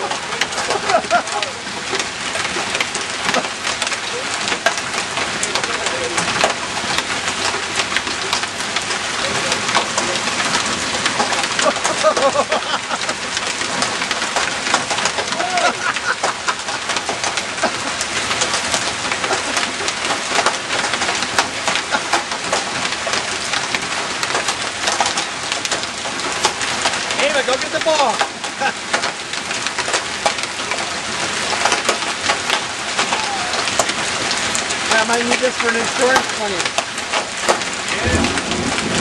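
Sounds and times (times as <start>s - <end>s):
hail clattering: 0.0s - 39.0s.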